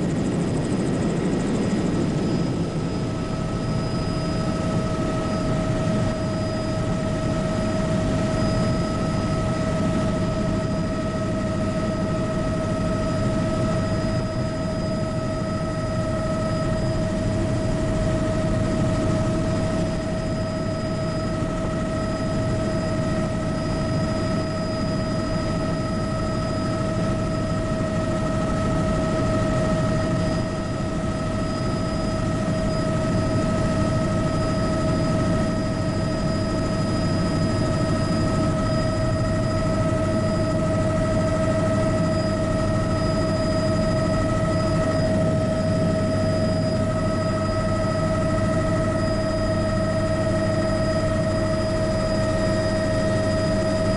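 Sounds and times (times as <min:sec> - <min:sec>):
helicopter rotor rumble: 0:00.0 - 0:53.9
high turbine whine: 0:00.0 - 0:53.9.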